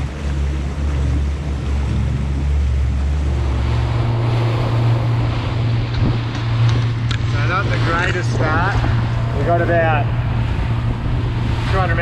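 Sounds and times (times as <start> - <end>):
outboard motor running: 0.0 - 12.0
water rushing past hull: 0.0 - 12.0
wind on microphone: 0.0 - 12.0.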